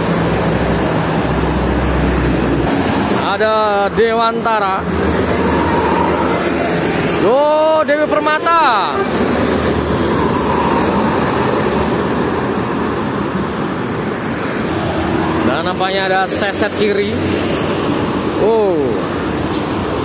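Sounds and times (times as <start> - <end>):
bus engine rumble: 0.0 - 20.0
tyre and road noise: 0.0 - 20.0.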